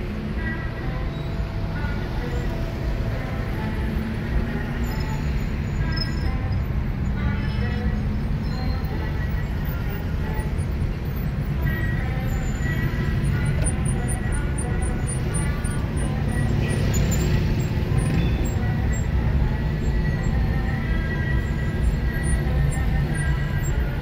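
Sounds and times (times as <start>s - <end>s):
car engine rumble and road noise: 0.0s - 24.0s.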